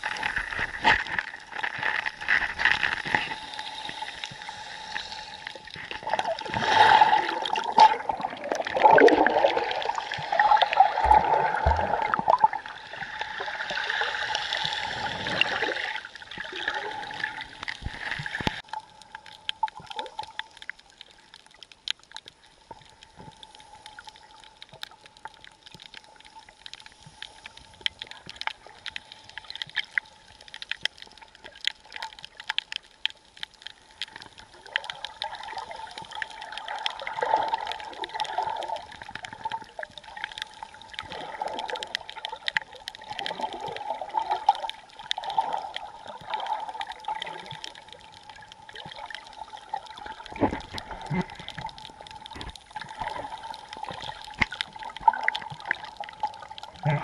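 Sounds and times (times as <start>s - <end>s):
small clicks and crackles: 0.0s - 57.0s
water gurgling and sloshing: 0.0s - 57.0s.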